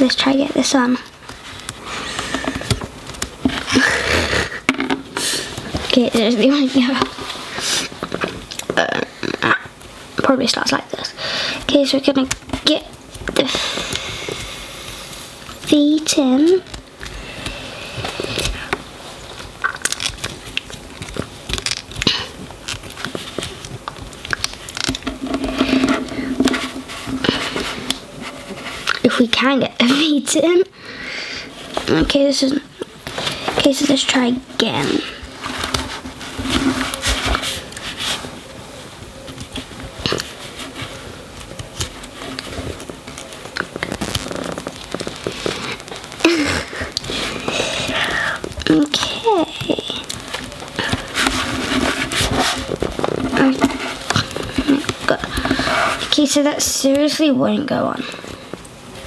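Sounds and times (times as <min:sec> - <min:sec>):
clothing rustling crackles: 0:00.0 - 0:30.6, 0:31.2 - 0:59.0.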